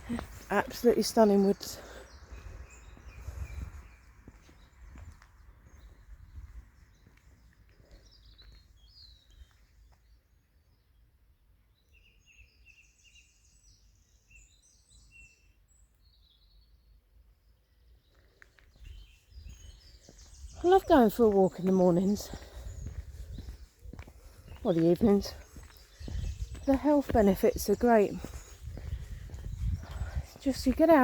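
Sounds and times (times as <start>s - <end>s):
songbirds chirping and trilling: 0.0s - 31.0s.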